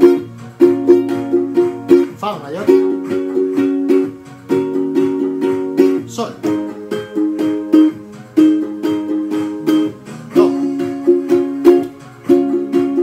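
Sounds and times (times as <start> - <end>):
ukulele strumming: 0.0 - 13.0.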